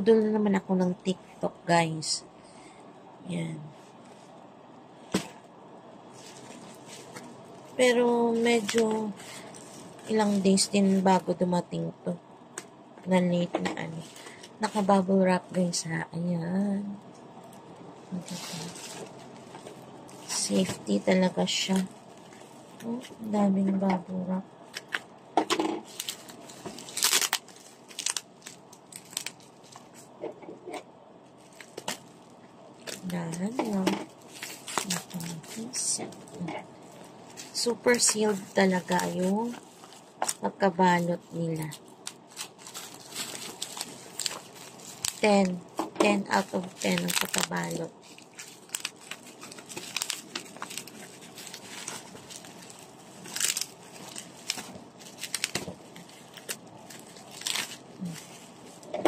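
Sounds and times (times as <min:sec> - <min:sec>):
bubble wrap crinkling and tearing: 0:06.0 - 0:12.6, 0:13.8 - 0:15.8, 0:17.3 - 0:23.4, 0:24.2 - 0:25.2, 0:25.8 - 0:30.2, 0:31.2 - 0:59.0.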